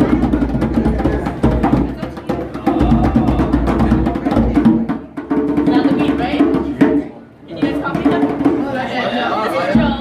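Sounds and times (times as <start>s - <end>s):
group of drums playing fast: 0.0s - 10.0s.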